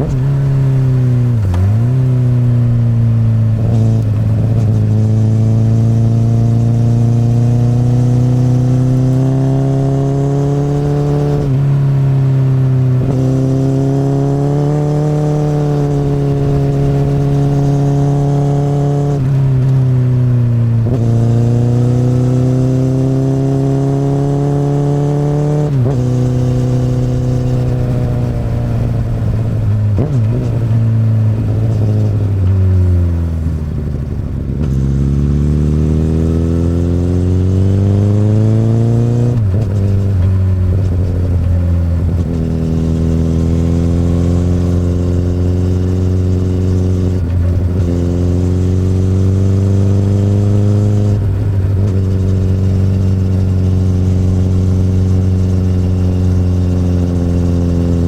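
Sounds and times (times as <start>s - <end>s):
motorcycle engine accelerating and upshifting: 0.0s - 58.0s.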